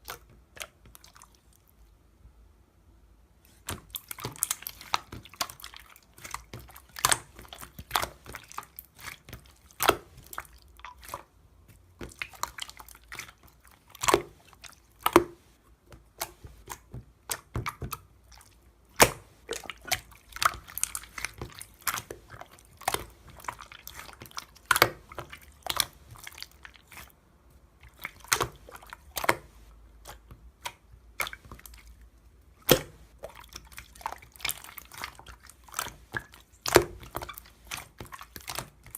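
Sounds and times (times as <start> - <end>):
slime squishing wet clicks: 0.0 - 1.5, 3.5 - 38.9.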